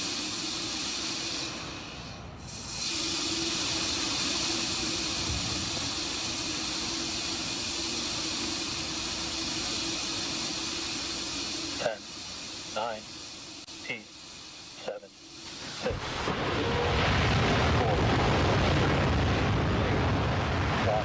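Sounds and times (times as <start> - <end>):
rocket venting hiss: 0.0 - 21.0.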